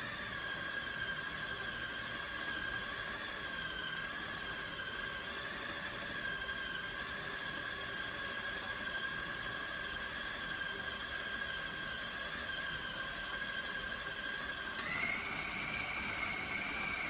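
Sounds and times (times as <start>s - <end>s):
food processor motor whine: 0.0s - 17.0s.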